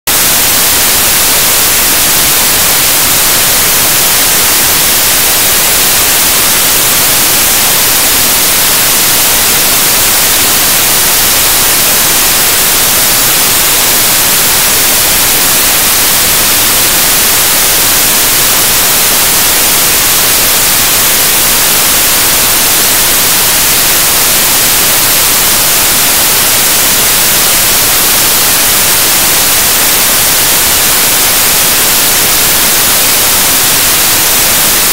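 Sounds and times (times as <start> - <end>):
loud static hiss: 0.1 - 34.9.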